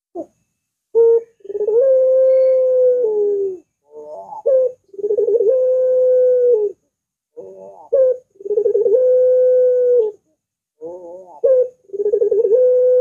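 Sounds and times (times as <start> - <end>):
dove cooing: 0.9 - 13.0.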